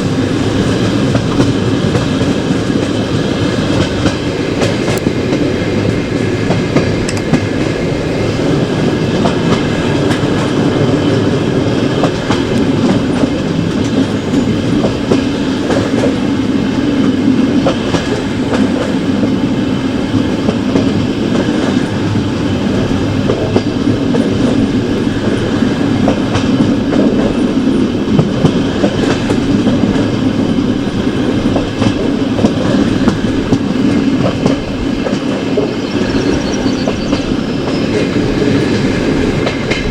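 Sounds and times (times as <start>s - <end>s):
rail joint clicks: 0.0s - 39.9s
train wheels rumbling on track: 0.0s - 39.9s.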